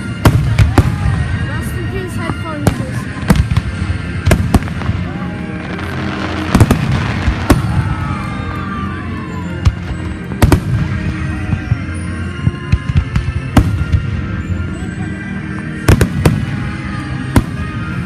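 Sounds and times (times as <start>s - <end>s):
fireworks bangs: 0.0s - 8.8s, 9.5s - 14.4s, 15.8s - 18.0s.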